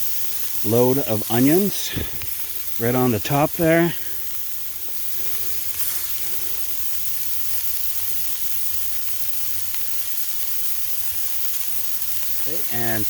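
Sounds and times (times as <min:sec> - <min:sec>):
meat sizzling on a griddle: 0:00.0 - 0:13.0.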